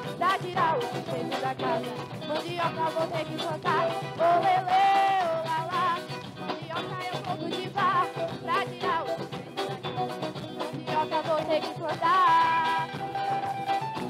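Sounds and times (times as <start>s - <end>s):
folk dance music: 0.0s - 14.0s.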